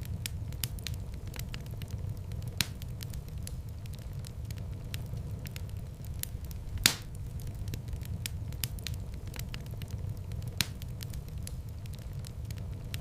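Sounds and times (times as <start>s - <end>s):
sharp fire pops: 0.0s - 13.0s
wood fire burning: 0.0s - 13.0s.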